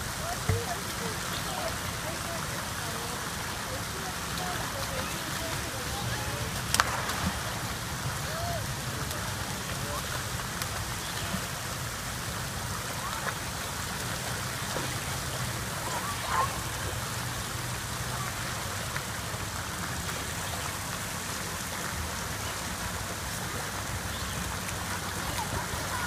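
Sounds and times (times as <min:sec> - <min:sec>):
water splashing from swimming: 0:00.0 - 0:26.0.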